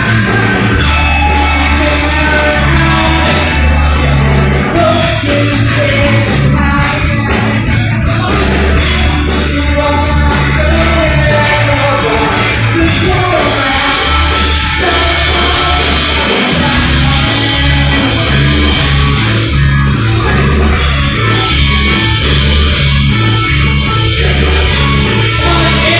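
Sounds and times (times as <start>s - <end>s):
loud rock music: 0.0s - 25.9s
person singing: 0.0s - 25.9s
pulsing bass beat: 0.0s - 25.9s.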